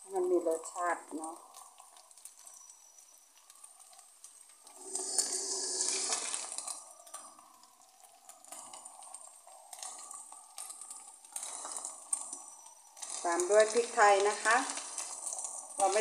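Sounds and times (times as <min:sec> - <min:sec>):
beef sizzling in a pan: 0:00.0 - 0:16.0
liquid hissing in a hot pan: 0:00.0 - 0:16.0.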